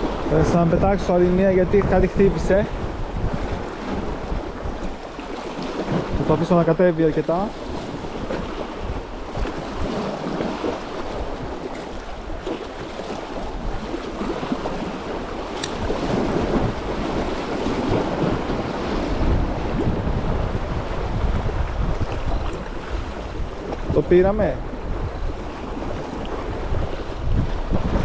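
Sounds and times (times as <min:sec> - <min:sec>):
sea waves: 0:00.0 - 0:28.0
wind buffeting microphone: 0:00.0 - 0:28.0.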